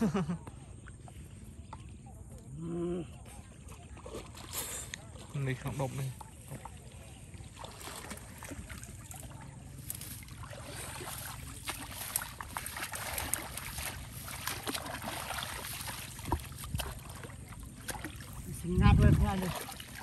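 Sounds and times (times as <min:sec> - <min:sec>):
water sloshing and splashing: 0:00.0 - 0:20.0.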